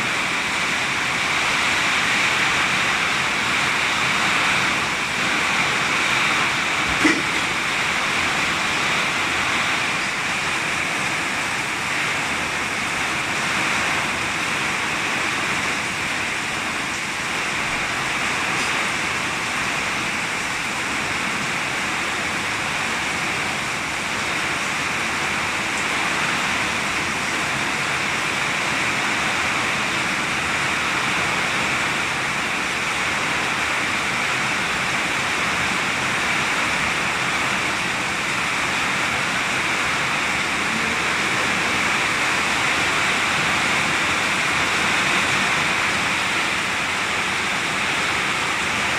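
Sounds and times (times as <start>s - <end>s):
heavy rain in strong wind: 0.0s - 48.9s.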